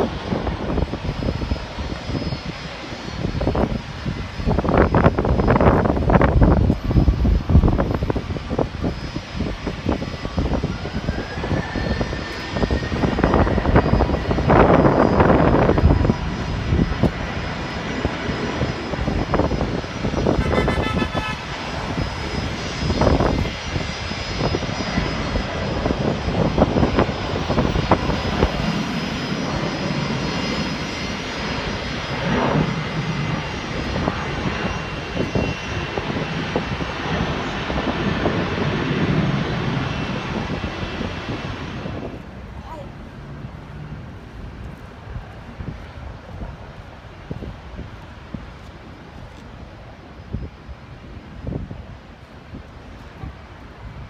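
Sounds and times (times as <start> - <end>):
jet engines whining: 0.0 - 54.0
wind buffeting microphone: 0.0 - 54.0.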